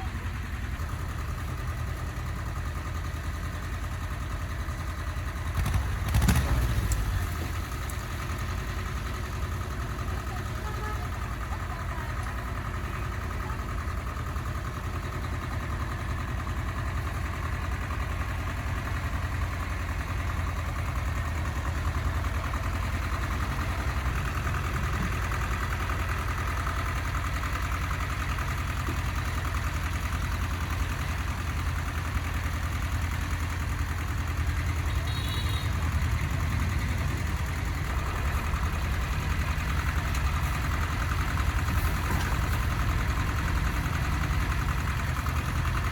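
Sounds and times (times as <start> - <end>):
engine running with low rumble: 0.0 - 45.9.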